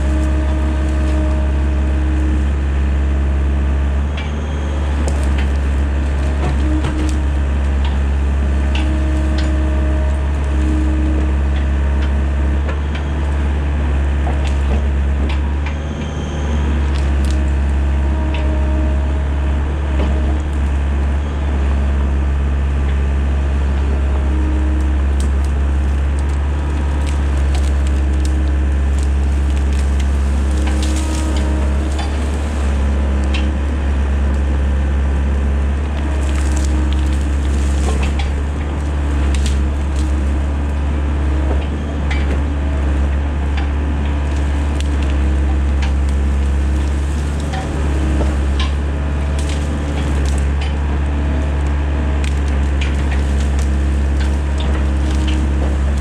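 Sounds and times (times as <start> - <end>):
brush and trees cracking: 0.0 - 56.0
excavator diesel engine running: 0.0 - 56.0.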